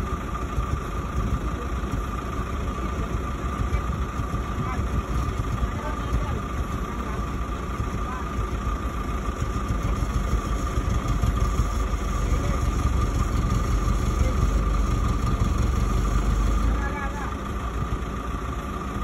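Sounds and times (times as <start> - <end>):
diesel truck engine straining: 0.0 - 19.0
steady whine: 0.0 - 19.0.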